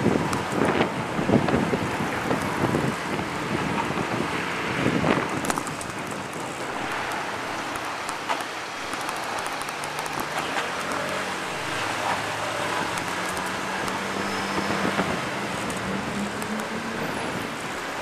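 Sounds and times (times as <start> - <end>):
slow city traffic: 0.0 - 18.0
wind buffeting microphone: 0.0 - 18.0.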